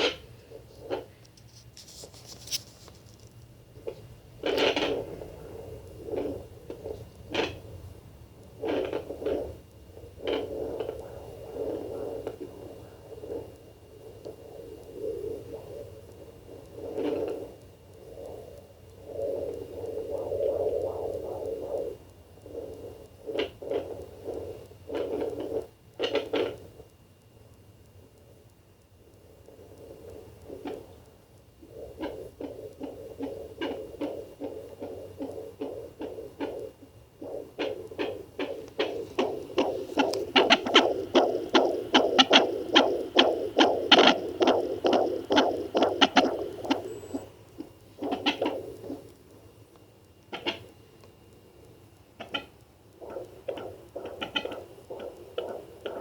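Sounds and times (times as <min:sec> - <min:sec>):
probe scraping on belly: 0:00.0 - 0:07.8, 0:08.4 - 0:27.0, 0:29.1 - 0:51.1, 0:52.2 - 0:56.0
faint hiss: 0:00.0 - 0:56.0
fetal heartbeat whooshing: 0:03.8 - 0:26.9, 0:29.0 - 0:49.5, 0:52.2 - 0:56.0.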